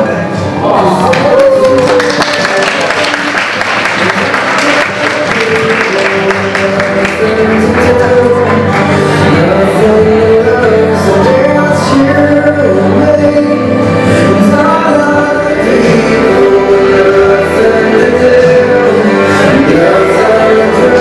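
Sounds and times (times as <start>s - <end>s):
song with sung melody: 0.0s - 21.0s.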